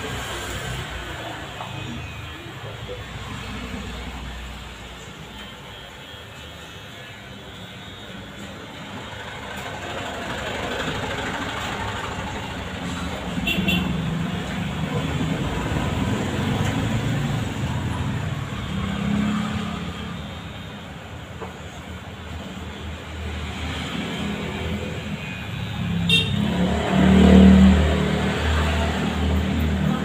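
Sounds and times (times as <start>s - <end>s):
passing vehicles rumbling: 0.0s - 4.6s, 9.0s - 20.2s, 21.7s - 30.0s.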